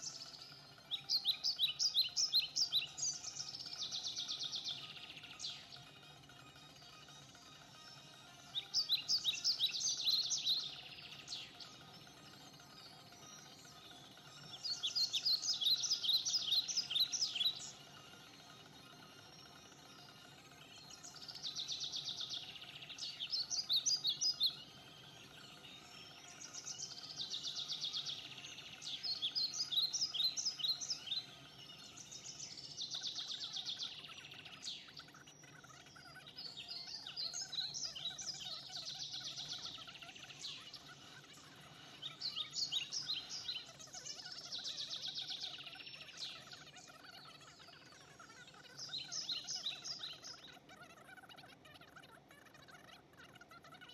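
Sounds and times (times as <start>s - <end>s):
songbird trilling song: 0.0s - 53.9s.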